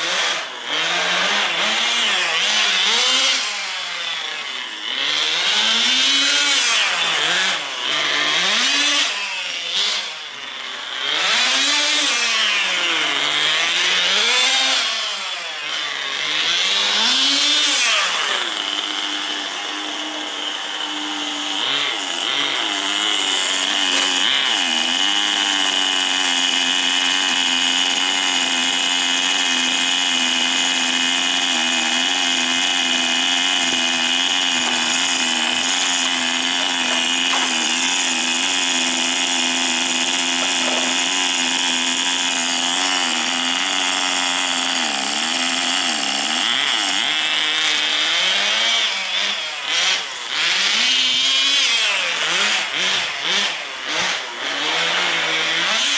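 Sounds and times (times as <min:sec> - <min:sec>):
small nitro engine buzzing: 0:00.0 - 0:55.9.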